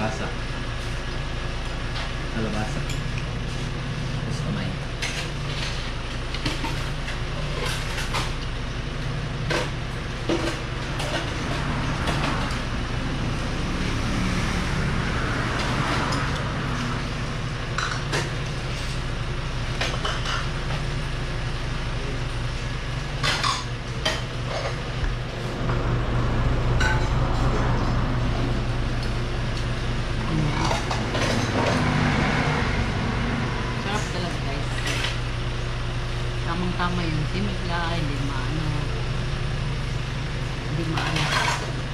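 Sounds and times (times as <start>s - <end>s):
low background hum: 0.0s - 41.9s.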